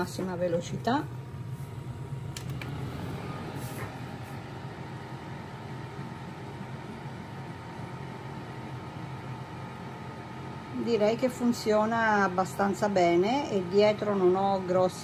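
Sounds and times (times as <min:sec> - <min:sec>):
extractor fan whirring: 0:00.0 - 0:15.0.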